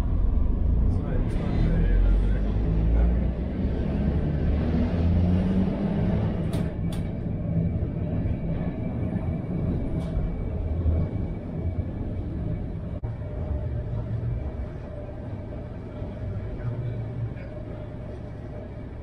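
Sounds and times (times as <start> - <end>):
tram wheels and motor rumbling: 0.0 - 19.0.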